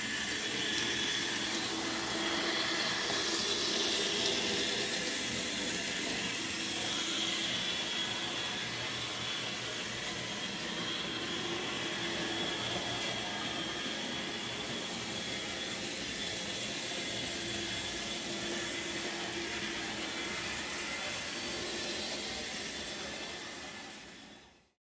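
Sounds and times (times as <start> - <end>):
whirring hiss: 0.0 - 24.7.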